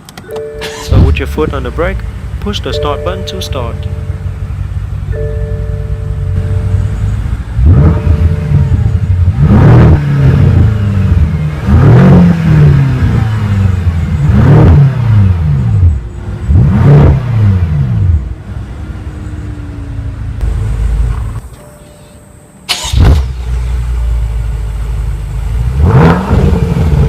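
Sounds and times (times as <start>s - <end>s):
car engine idling: 0.0s - 25.8s
car engine revving: 0.6s - 21.4s, 22.7s - 27.0s.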